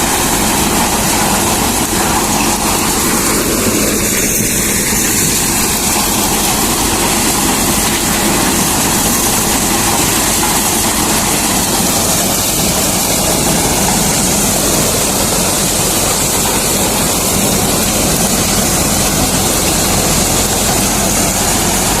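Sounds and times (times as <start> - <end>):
thresher machine running: 0.0 - 22.0.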